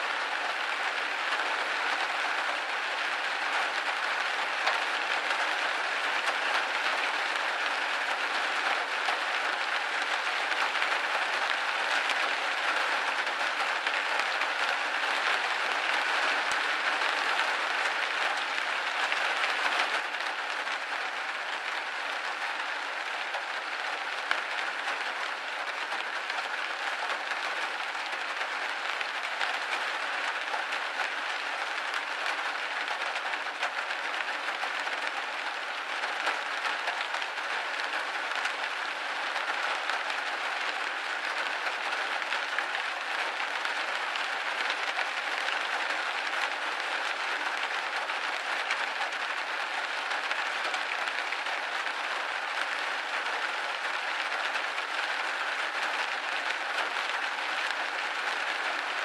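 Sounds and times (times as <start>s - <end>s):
rain hitting a window: 0.0s - 59.0s.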